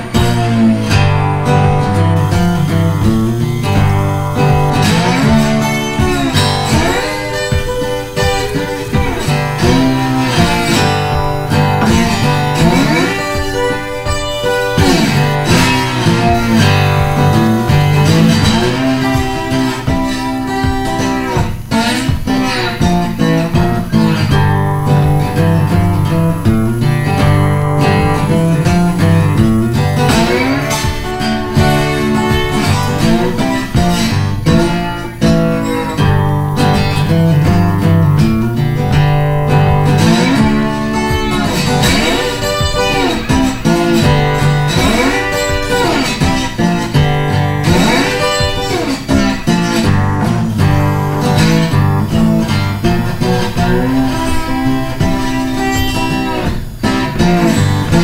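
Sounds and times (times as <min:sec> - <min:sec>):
guitar music with bent notes: 0:00.0 - 0:58.0.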